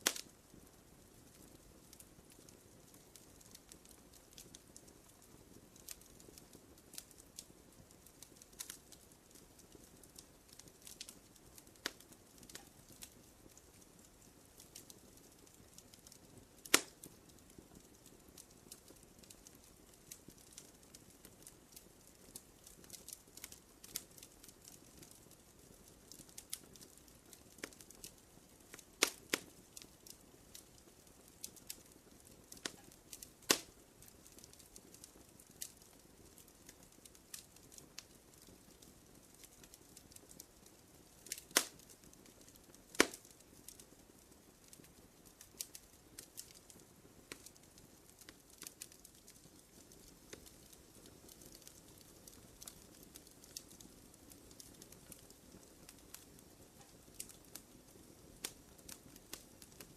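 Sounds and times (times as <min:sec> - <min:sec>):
campfire crackling: 0:00.0 - 0:59.9
faint steady hiss: 0:00.0 - 0:59.9.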